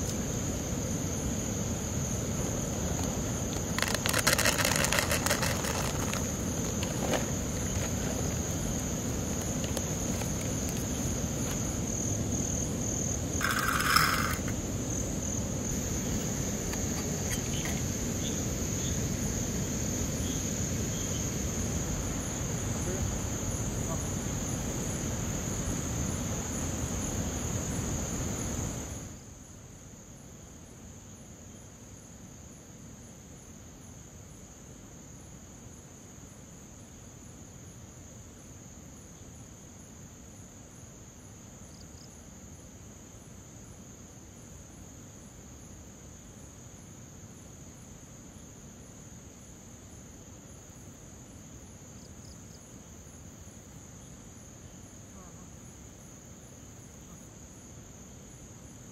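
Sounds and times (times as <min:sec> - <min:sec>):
crickets chirring: 0:00.0 - 0:58.9.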